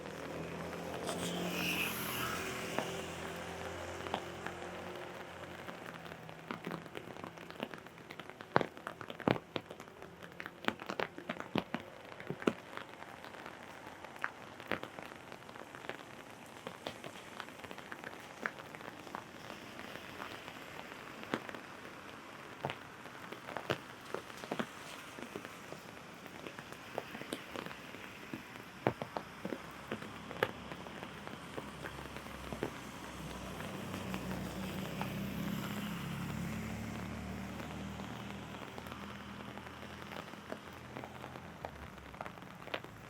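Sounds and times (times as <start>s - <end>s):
rain on an umbrella: 0.0s - 43.0s.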